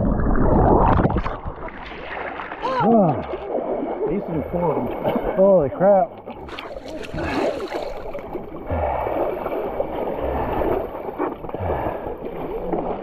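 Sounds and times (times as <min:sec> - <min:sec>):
dull low thumps in water: 0:00.0 - 0:13.0
water sloshing and splashing: 0:00.0 - 0:13.0.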